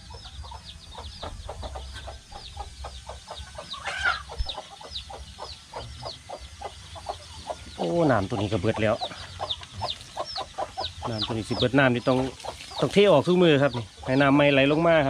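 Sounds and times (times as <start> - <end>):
chicks peeping: 0.0 - 15.0
hens clucking: 0.0 - 15.0.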